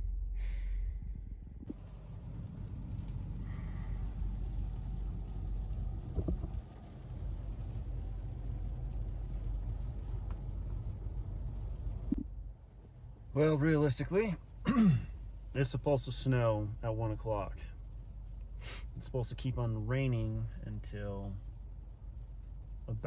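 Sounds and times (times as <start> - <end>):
low rumble: 0.0 - 23.0
rain on car roof: 1.7 - 23.0.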